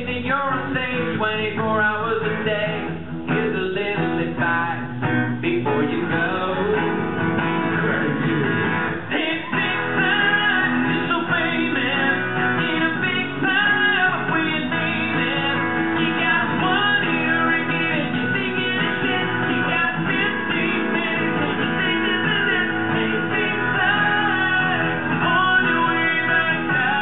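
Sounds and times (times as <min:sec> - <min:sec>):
instrumental backing music: 0:00.0 - 0:27.0
man singing into a microphone: 0:00.0 - 0:27.0.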